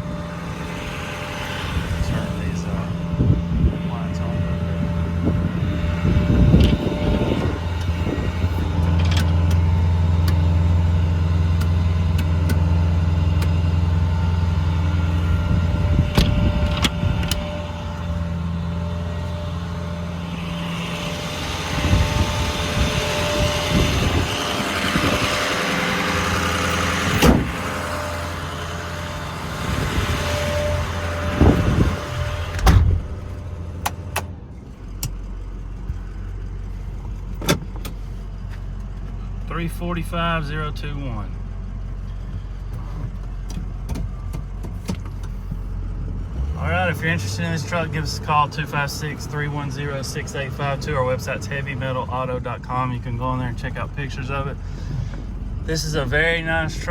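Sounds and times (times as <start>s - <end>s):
truck engine idling: 0.0s - 56.9s.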